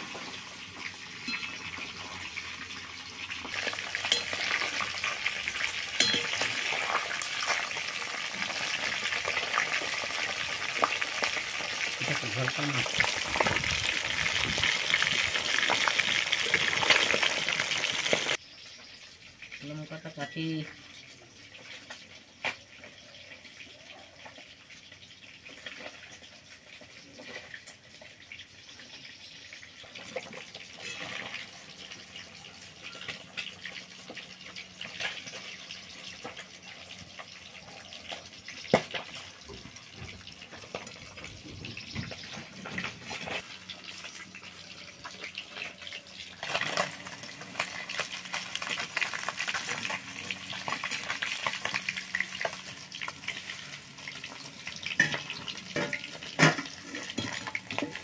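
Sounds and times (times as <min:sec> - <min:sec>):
food frying in hot oil: 0:00.0 - 0:58.0.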